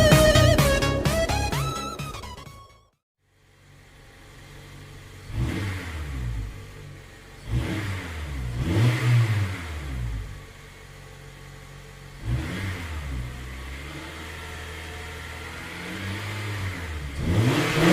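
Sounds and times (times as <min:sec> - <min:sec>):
car engine idling and revving: 0:03.2 - 0:17.9.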